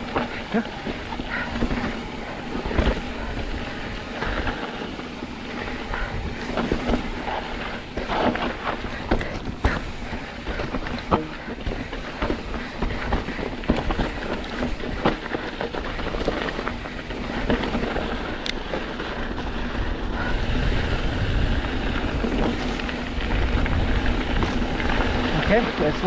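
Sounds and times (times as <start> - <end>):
tyres rattling on rock: 0.0 - 18.2, 22.2 - 26.0
bike knocking and clacking: 0.0 - 26.0
wind rumble on microphone: 0.0 - 26.0.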